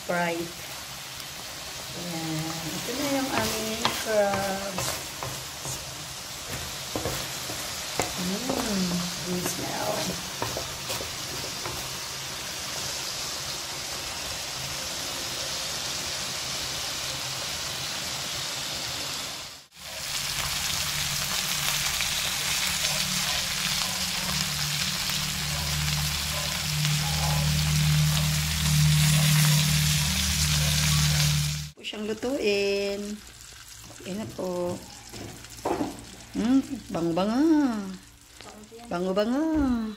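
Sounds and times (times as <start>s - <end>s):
crabs sizzling in oil: 0.0s - 39.4s.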